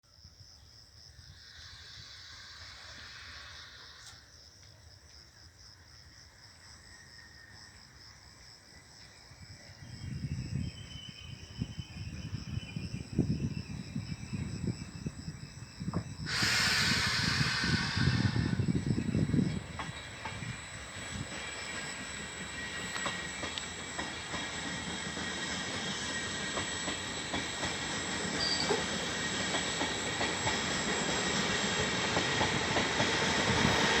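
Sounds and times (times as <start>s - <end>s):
insects trilling: 0.1s - 34.0s
train passing with rushing hiss: 0.8s - 34.0s.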